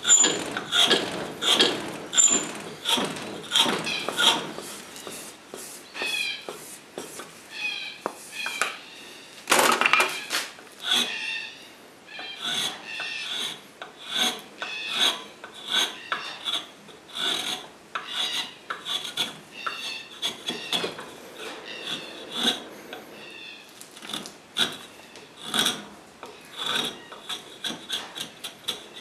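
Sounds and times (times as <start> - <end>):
hand file rasping on wood: 0.0 - 7.4, 10.8 - 11.2, 12.2 - 23.2, 24.0 - 29.0.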